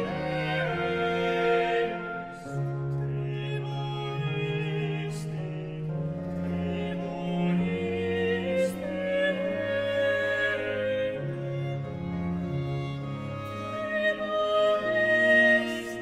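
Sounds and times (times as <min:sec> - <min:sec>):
bowed strings holding chords: 0:00.0 - 0:16.0.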